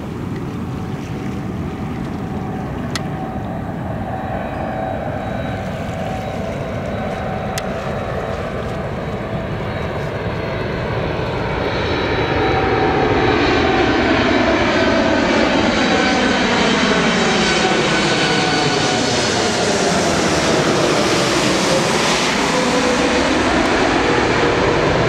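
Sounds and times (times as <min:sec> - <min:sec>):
jet aircraft whoosh overhead: 0:00.0 - 0:25.0
jet engines whining: 0:00.0 - 0:25.0.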